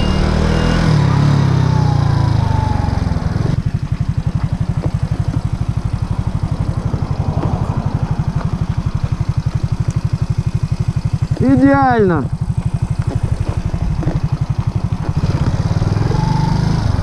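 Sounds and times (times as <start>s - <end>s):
moped engine idling: 0.0s - 17.0s.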